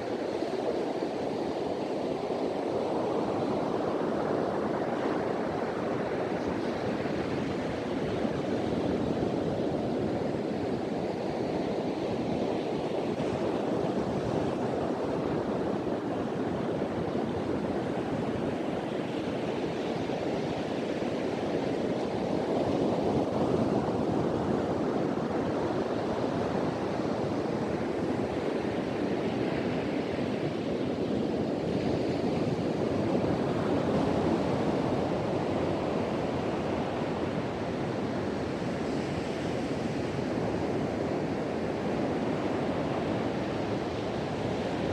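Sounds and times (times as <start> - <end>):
ocean surf breaking on beach: 0.0 - 44.9
wind: 0.0 - 44.9.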